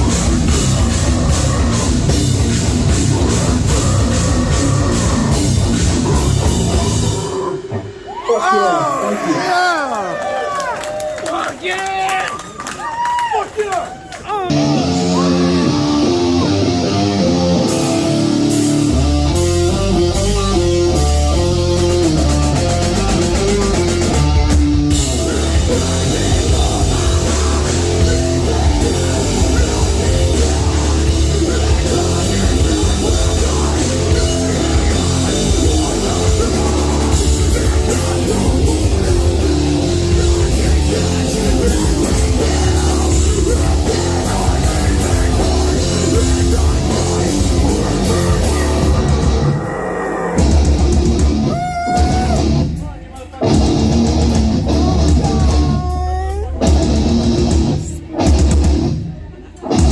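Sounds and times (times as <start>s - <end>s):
distorted electric guitar: 0.0s - 8.1s, 14.5s - 59.9s
bass guitar: 0.0s - 8.3s, 14.5s - 59.9s
drum kit: 0.0s - 8.3s, 14.5s - 59.9s.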